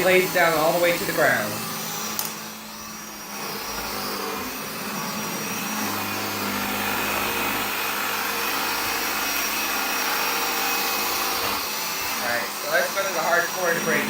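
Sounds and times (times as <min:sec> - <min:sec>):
cordless vacuum running: 0:00.0 - 0:14.0.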